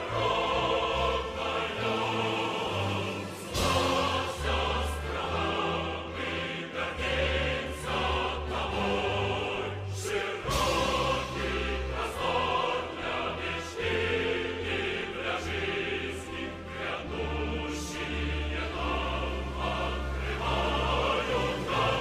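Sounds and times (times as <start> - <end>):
choir singing held notes: 0.0 - 22.0.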